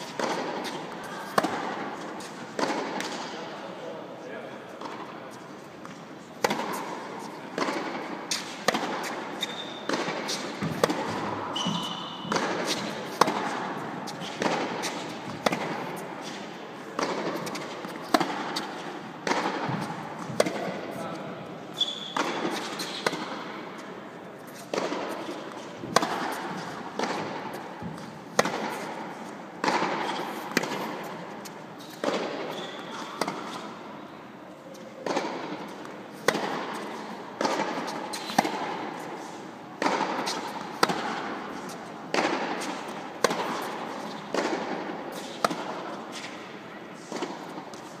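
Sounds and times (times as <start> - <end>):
tennis balls struck by rackets: 0.0 - 3.3, 4.8 - 5.2, 5.8 - 21.1, 21.8 - 23.8, 24.4 - 33.8, 34.8 - 48.0.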